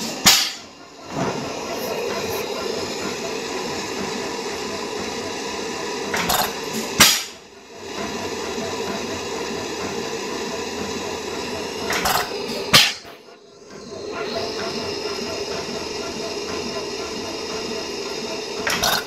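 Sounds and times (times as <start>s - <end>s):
engine mechanical clatter and hiss: 0.0s - 19.0s.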